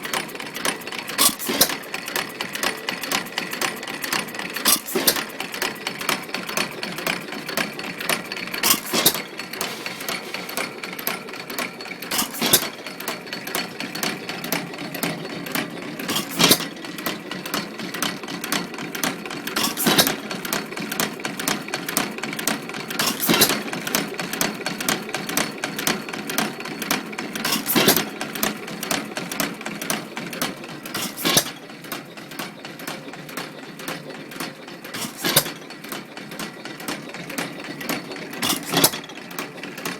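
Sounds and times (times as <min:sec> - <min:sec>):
crank and valve gear clatter: 0:00.0 - 0:39.9.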